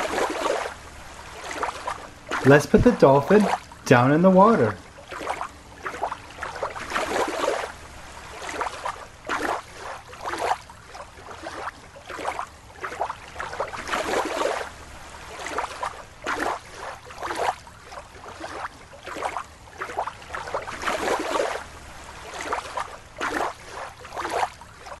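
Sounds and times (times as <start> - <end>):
water splashing and sloshing: 0.0 - 25.0.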